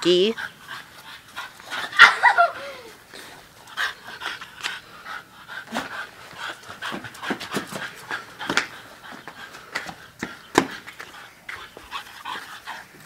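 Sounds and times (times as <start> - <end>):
dog panting: 0.0 - 2.1, 3.2 - 13.0.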